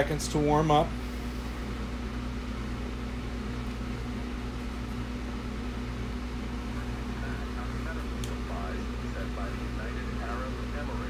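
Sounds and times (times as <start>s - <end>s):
radio mains hum: 0.0s - 11.0s.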